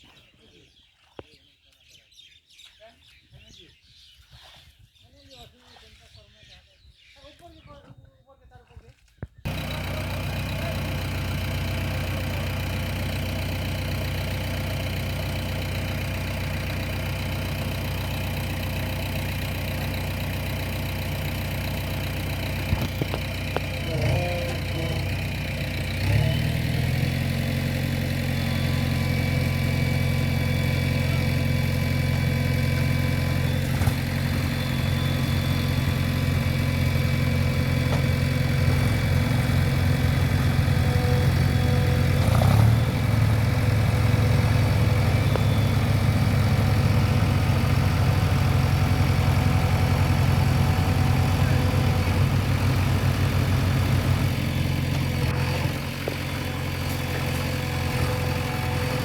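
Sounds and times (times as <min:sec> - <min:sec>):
heavy diesel engine idling: 0:09.5 - 0:59.0.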